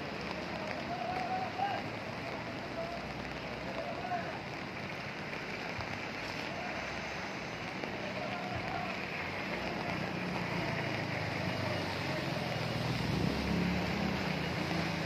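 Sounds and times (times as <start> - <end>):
falling rain: 0.0 - 15.0
flooded river rushing: 0.0 - 15.0.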